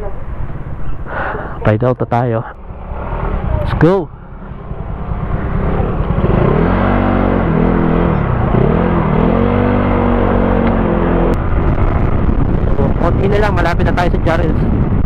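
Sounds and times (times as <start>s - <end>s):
wind and road noise: 0.0s - 15.0s
motorcycle engine accelerating: 2.6s - 15.0s.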